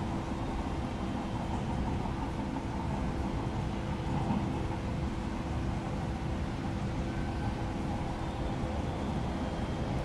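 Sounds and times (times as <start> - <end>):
electric train rumbling: 0.0 - 10.0
faint steady hum: 0.0 - 10.0.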